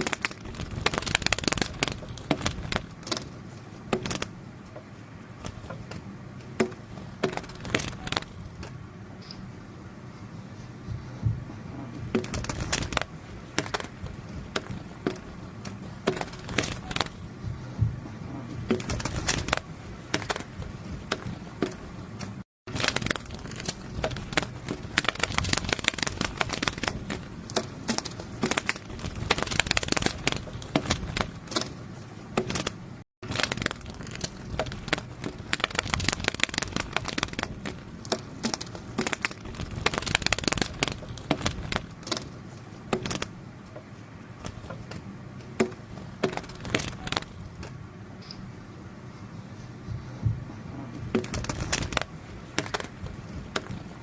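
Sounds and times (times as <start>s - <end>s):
wings fluttering: 0.0s - 43.4s, 44.2s - 48.5s, 49.8s - 54.0s.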